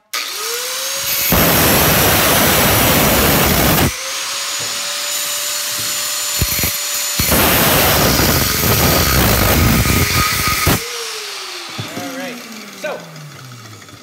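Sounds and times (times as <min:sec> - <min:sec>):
angle grinder cutting metal: 0:00.0 - 0:14.0
grinder running free whine: 0:00.0 - 0:14.0.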